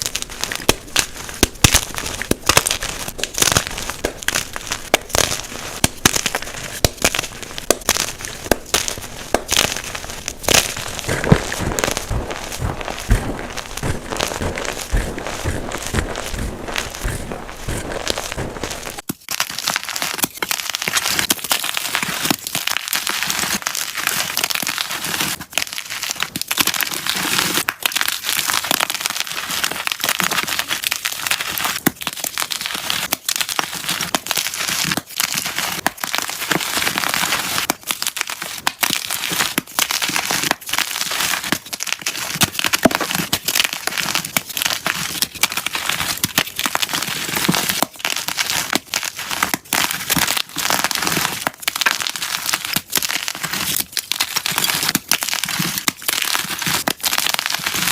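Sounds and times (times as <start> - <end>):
chalk crunching and crackling: 0.0 - 57.9.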